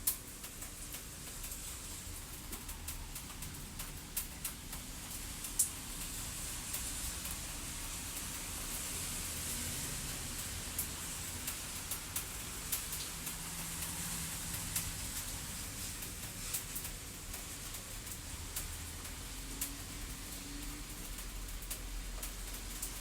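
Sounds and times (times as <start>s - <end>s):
steady hiss: 0.0s - 23.0s
wood fire crackling and popping: 0.0s - 23.0s.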